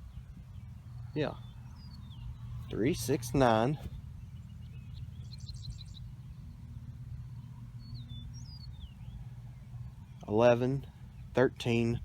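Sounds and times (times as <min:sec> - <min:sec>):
songbirds chirping: 0:00.0 - 0:12.0
steady low hum: 0:00.0 - 0:12.0.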